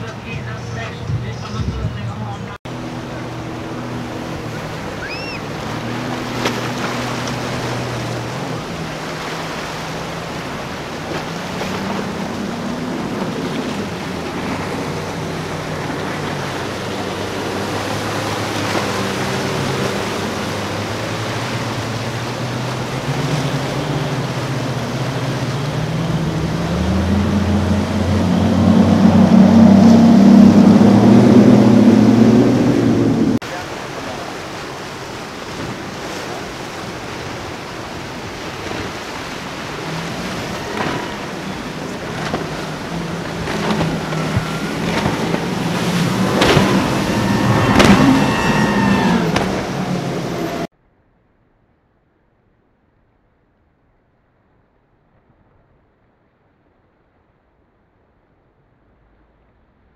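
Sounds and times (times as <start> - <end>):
outboard motors running at speed: 0.0 - 50.7
waves washing: 0.0 - 50.7
wind: 0.0 - 59.9.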